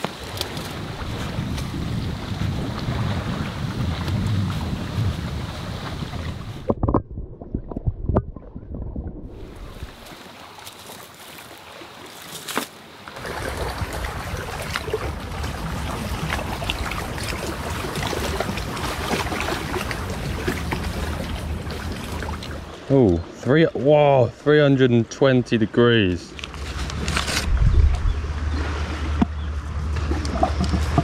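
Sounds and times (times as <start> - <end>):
water lapping: 0.0 - 6.7, 9.3 - 24.5, 26.3 - 31.0.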